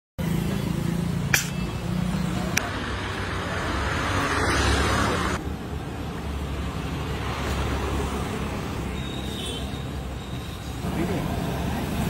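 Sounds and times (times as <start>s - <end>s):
low rumble of street traffic: 0.2s - 12.0s.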